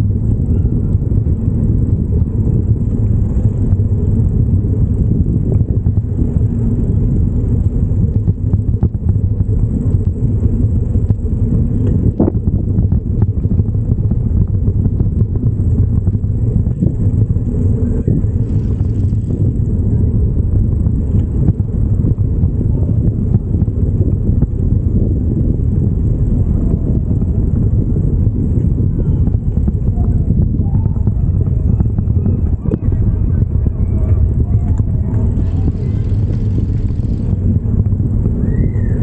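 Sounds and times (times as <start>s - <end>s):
bicycle riding rumble: 0.0s - 39.0s
wind and road noise: 0.0s - 39.0s.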